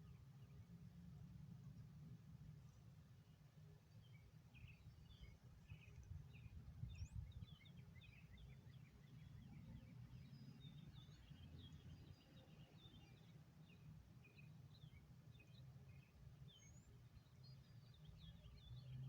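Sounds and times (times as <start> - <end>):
faint small birds chirping: 1.6 - 19.0.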